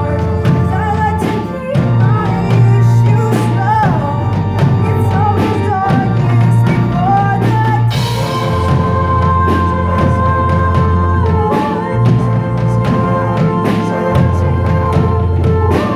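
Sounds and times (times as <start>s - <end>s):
drum kit: 0.0s - 15.9s
keyboard: 0.0s - 15.9s.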